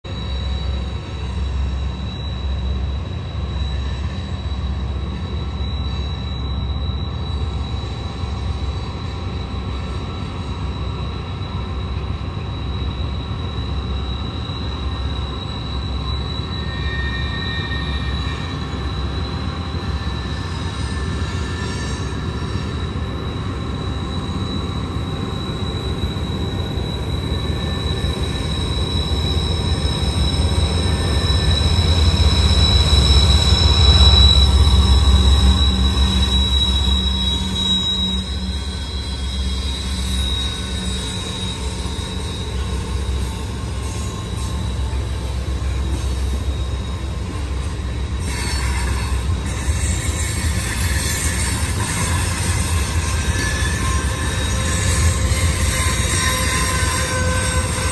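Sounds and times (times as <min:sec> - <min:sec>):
high wheel squeal: 0:00.0 - 0:57.9
train rumbling past: 0:00.0 - 0:57.9.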